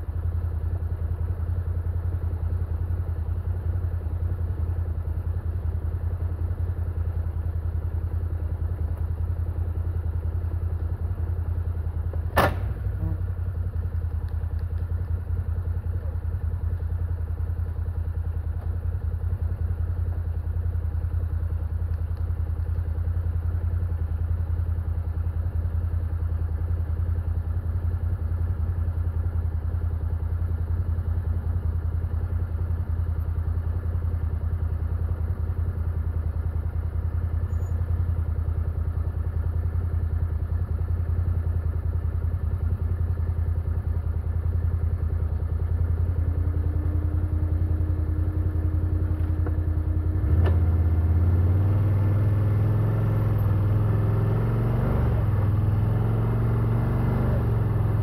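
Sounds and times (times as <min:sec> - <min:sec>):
vehicle engine low hum: 0:00.0 - 0:58.0.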